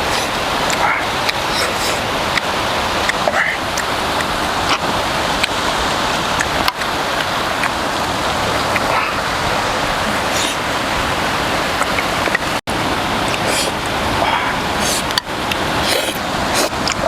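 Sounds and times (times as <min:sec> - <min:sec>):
steady hissing rushing noise: 0:00.0 - 0:17.0.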